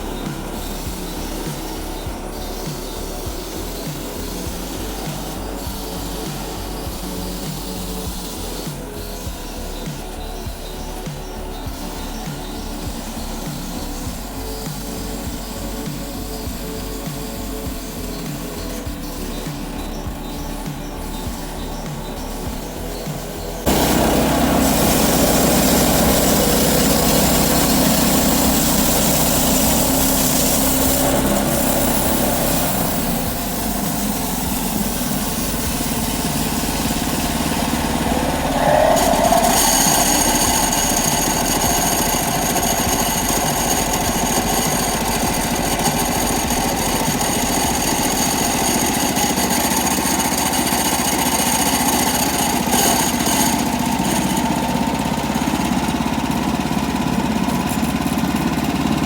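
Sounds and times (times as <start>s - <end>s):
high steady whine: 0.0s - 57.7s
sawmill engine running: 0.0s - 59.0s.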